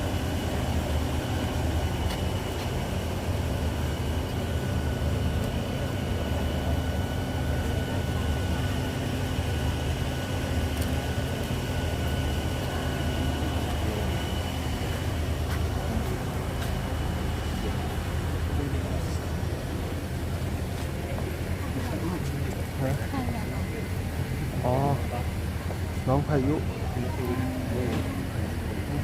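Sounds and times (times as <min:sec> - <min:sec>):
vehicle rumble: 0:00.0 - 0:29.0.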